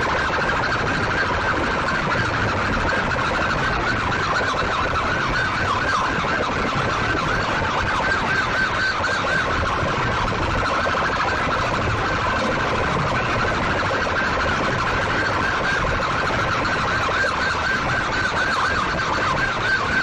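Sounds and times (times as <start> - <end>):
siren-like warbling tone: 0.0 - 20.0.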